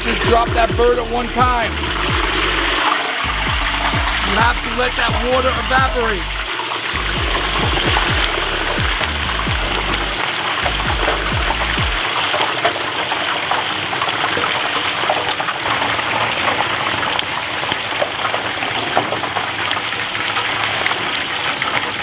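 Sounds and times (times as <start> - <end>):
hot oil bubbling and crackling: 0.0 - 22.0.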